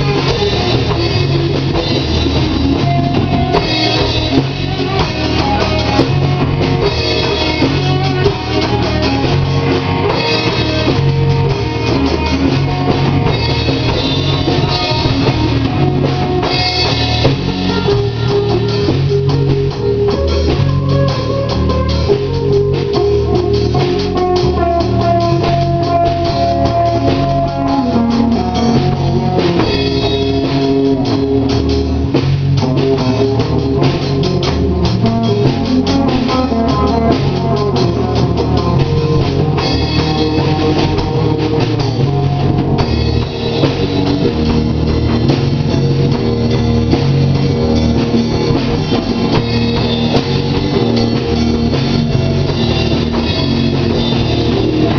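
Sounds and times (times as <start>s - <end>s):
drum kit beat: 0.0s - 54.9s
rock band playing: 0.0s - 54.9s.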